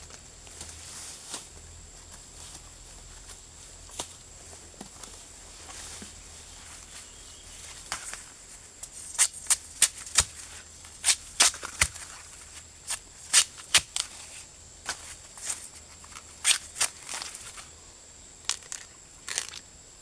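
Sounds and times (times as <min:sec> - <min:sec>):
dry leaves and twigs crackling: 0:00.0 - 0:19.8.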